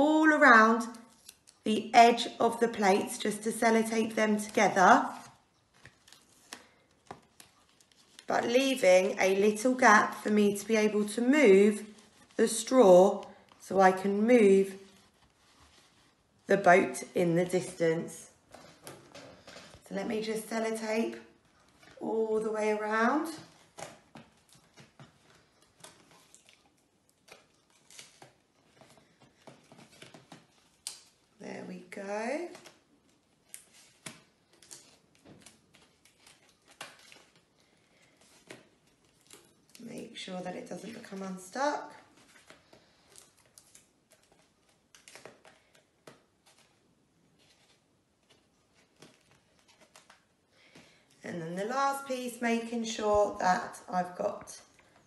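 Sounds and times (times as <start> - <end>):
paper plates and tape rustling: 0.4 - 55.0.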